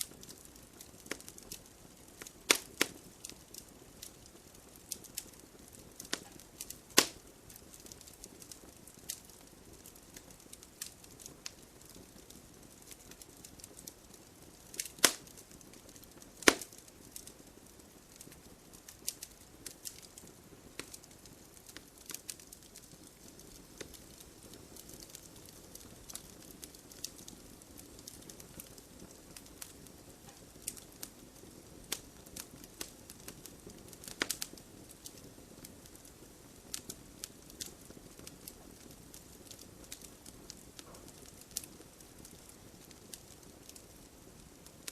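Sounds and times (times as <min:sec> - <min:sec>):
faint fire hiss: 0:00.0 - 0:44.9
loud fire pops: 0:00.0 - 0:44.9
wood logs crackling in fireplace: 0:00.0 - 0:44.9.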